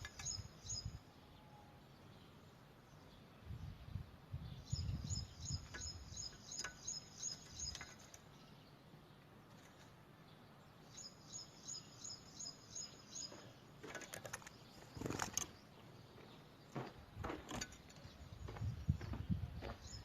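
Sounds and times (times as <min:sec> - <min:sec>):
small bird chirping: 0:00.0 - 0:16.8.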